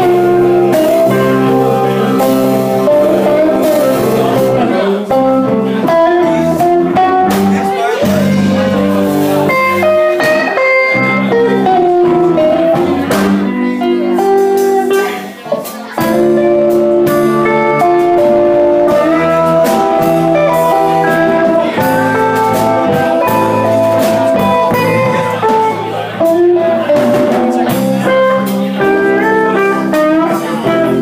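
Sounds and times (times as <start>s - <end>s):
electric guitar: 0.0s - 31.0s
electric keyboard: 0.0s - 31.0s.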